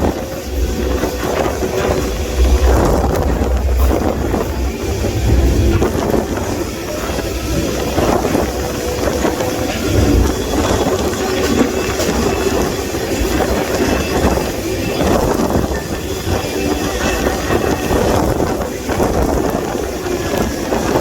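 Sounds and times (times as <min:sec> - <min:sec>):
freight train rumbling and rattling: 0:00.0 - 0:21.0.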